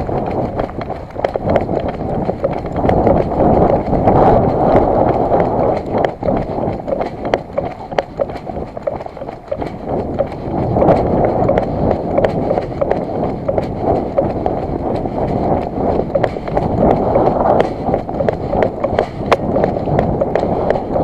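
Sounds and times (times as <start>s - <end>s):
running footsteps: 0.0s - 21.0s.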